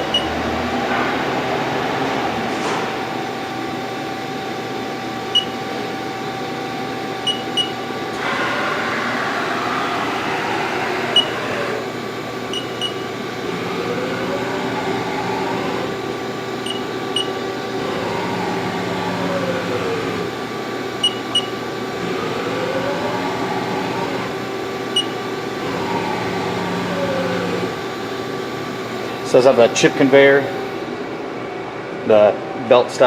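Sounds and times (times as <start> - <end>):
lathe spindle whine: 0.0 - 31.2
machine hum: 0.0 - 33.0.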